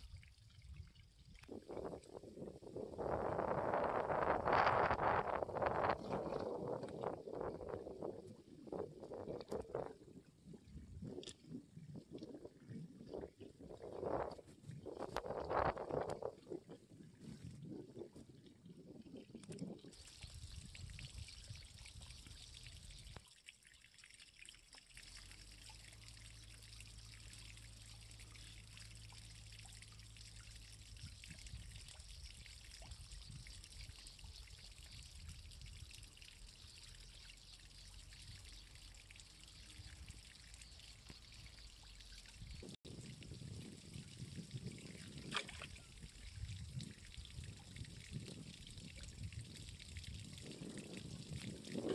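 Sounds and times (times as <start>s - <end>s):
small water splashes: 0.0s - 51.9s
water trickling and lapping: 0.0s - 51.9s.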